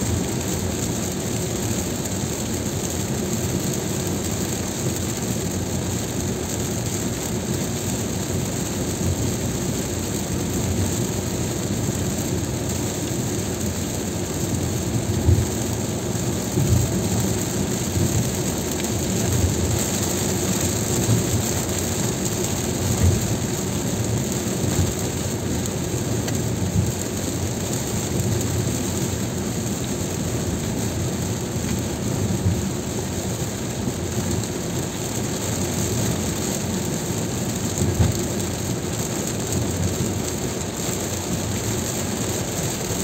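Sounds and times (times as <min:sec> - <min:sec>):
rain and tyre noise: 0:00.0 - 0:43.0.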